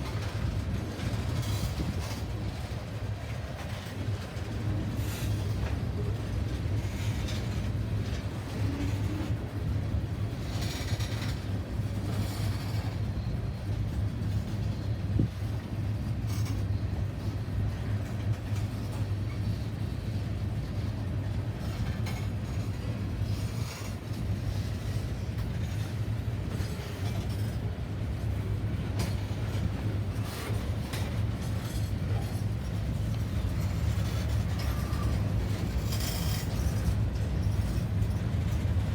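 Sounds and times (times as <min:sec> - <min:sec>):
train rolling on rails: 0:00.0 - 0:38.9.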